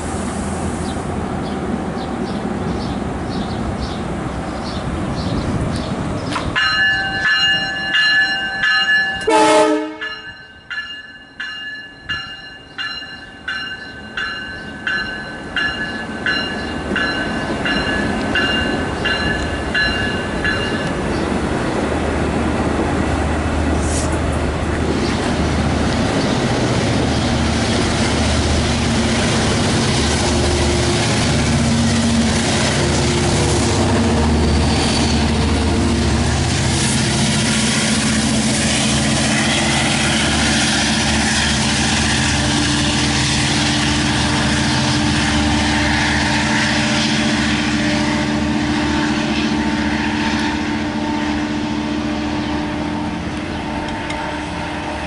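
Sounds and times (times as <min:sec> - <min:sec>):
diesel locomotive engine droning: 0:00.0 - 0:55.0.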